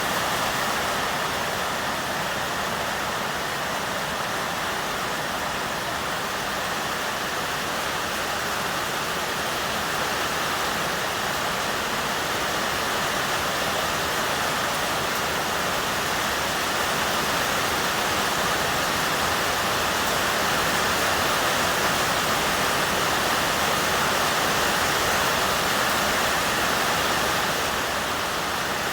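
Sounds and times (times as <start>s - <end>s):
rain on a metal roof: 0.0s - 28.9s.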